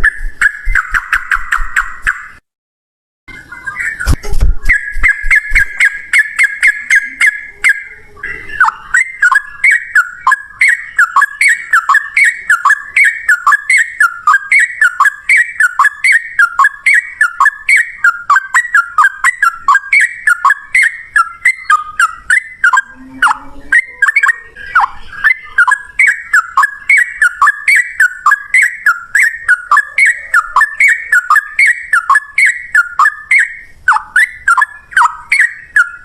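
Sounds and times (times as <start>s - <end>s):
bulbul singing: 3.3s - 36.0s.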